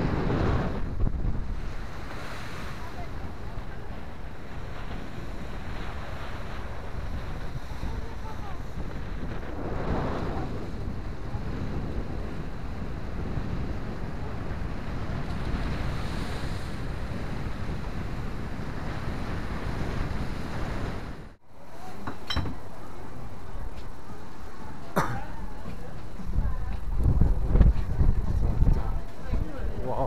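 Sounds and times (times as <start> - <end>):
wind buffeting microphone: 0.0 - 21.4, 22.5 - 30.0.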